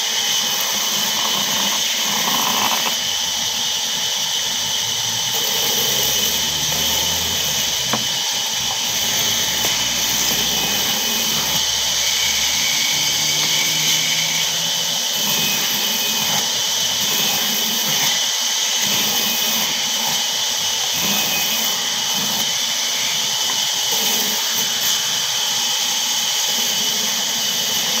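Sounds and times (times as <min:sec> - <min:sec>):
band saw cutting wood: 0:00.0 - 0:28.0.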